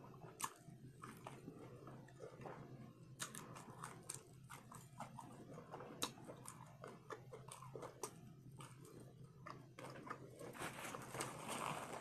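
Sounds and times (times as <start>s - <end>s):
crunchy chewing: 0.1s - 12.0s.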